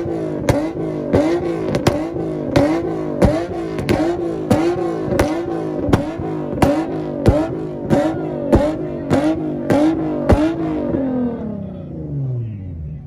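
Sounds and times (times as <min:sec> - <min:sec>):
engine revving on rev limiter: 0:00.0 - 0:12.4
sharp exhaust bangs: 0:00.0 - 0:12.5.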